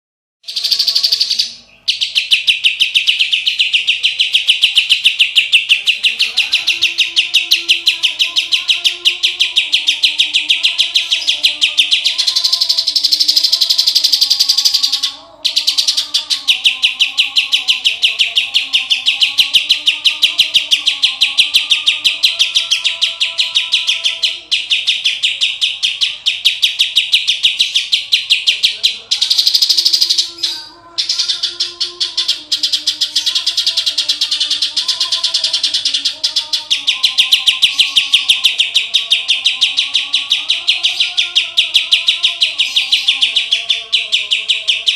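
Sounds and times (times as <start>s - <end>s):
bird singing fast chattering trill: 0.4s - 44.9s.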